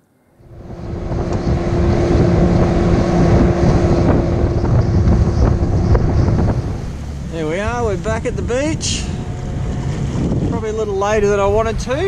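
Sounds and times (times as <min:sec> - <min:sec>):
small boat motor running: 0:00.3 - 0:11.7
wind buffeting microphone: 0:00.4 - 0:12.0.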